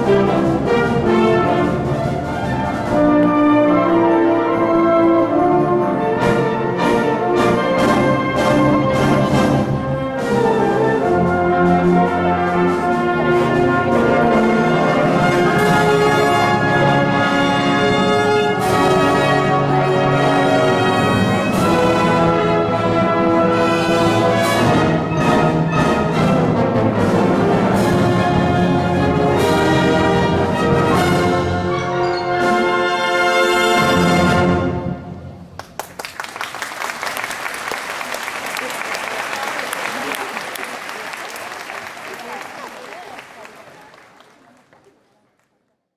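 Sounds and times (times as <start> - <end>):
wind band playing: 0.0 - 35.5, 36.3 - 44.9.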